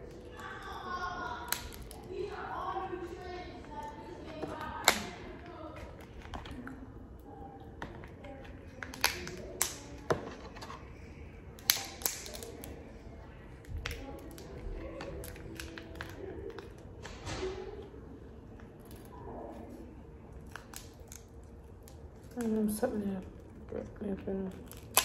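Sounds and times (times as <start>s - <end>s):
crab shell cracking: 0.0s - 3.0s, 3.7s - 6.8s, 7.8s - 10.7s, 11.5s - 17.9s, 18.6s - 22.8s, 24.5s - 25.0s.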